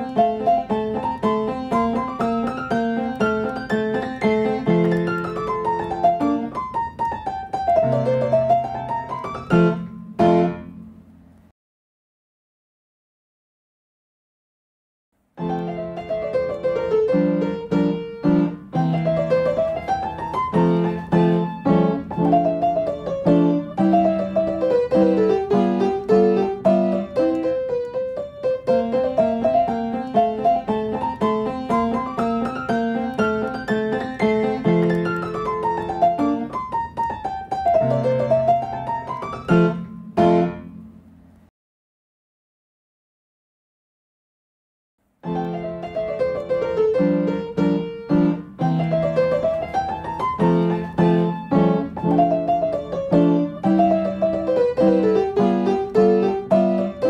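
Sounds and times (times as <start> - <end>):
piano music: 0.0 - 11.1, 15.4 - 41.2, 45.2 - 57.0.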